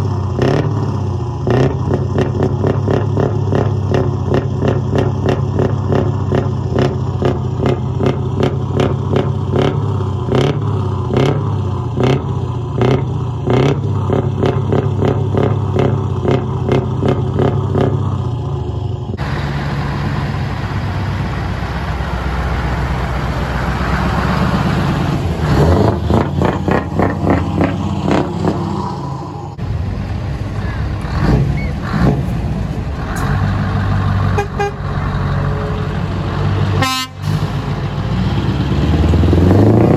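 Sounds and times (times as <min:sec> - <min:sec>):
truck engine pulsing: 0:00.0 - 0:39.9.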